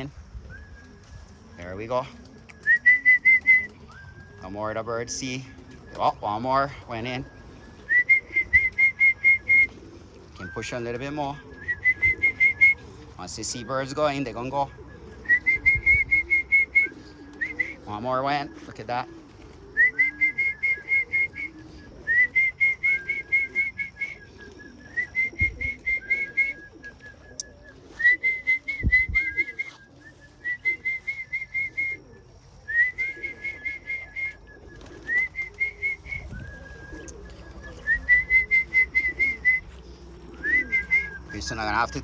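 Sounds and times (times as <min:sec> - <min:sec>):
pigeons cooing: 0:00.0 - 0:42.0
person whistling trilled call: 0:00.4 - 0:01.8, 0:02.4 - 0:04.8, 0:05.8 - 0:18.8, 0:19.7 - 0:42.0.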